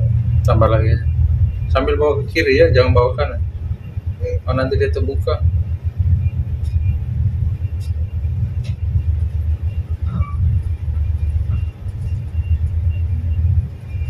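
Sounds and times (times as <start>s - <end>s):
boat diesel engine rumble: 0.0s - 14.0s
wind buffeting microphone: 0.0s - 14.0s.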